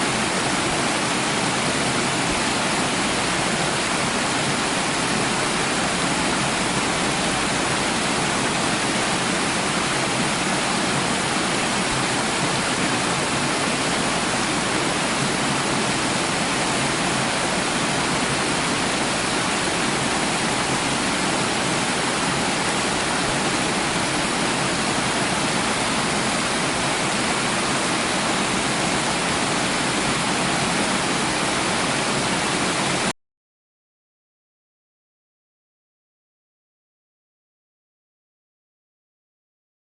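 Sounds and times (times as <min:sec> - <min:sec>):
waterfall roaring: 0:00.0 - 0:33.1.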